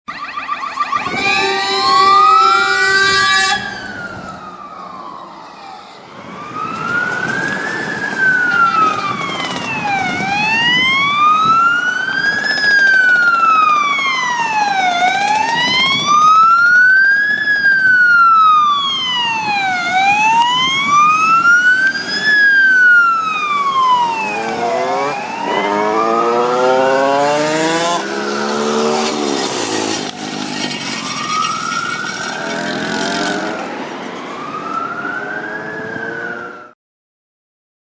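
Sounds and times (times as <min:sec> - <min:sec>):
faster rising siren sound: 0:00.1 - 0:36.8
fire engine siren wailing: 0:00.1 - 0:36.8.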